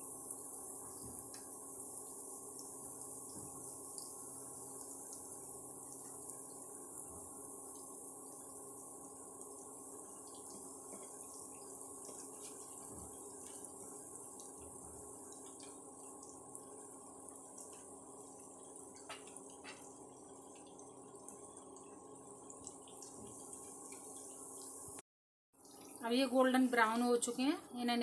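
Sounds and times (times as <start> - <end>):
induction cooktop hum: 0.0 - 25.0, 25.6 - 28.0
pancakes sizzling in fat: 0.0 - 25.0.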